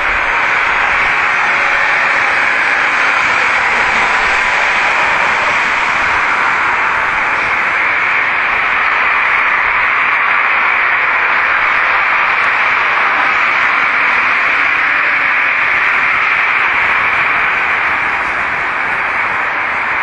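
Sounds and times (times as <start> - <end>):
loud steady hiss: 0.0 - 20.0.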